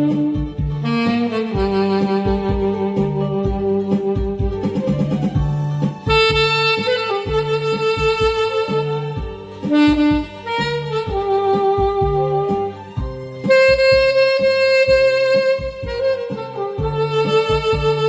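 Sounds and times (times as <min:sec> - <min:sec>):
backing track with steady beat: 0:00.0 - 0:18.0
saxophone playing slow melody: 0:00.0 - 0:18.0.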